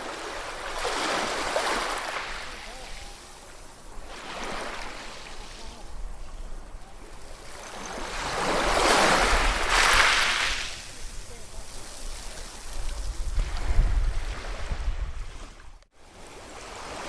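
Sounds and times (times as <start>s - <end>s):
surf washing: 0.0s - 17.0s.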